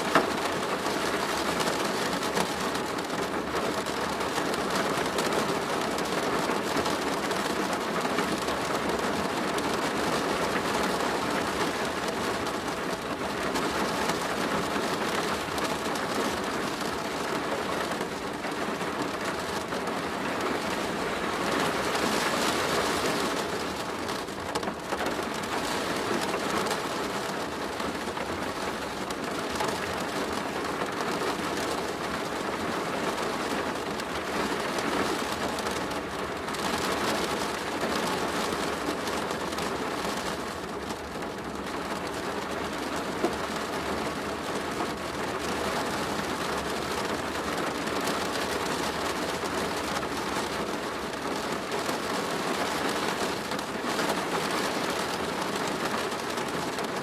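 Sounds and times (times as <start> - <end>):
rain on a plastic roof: 0.0 - 57.0.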